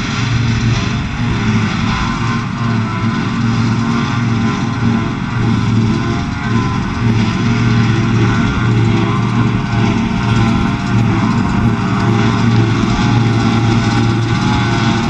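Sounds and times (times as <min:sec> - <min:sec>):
forage harvester engine drone: 0:00.0 - 0:15.0.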